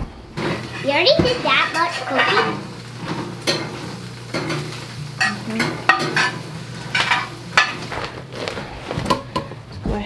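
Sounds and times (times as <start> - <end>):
cookware clattering and clinking: 0.4 - 7.9, 9.0 - 9.6.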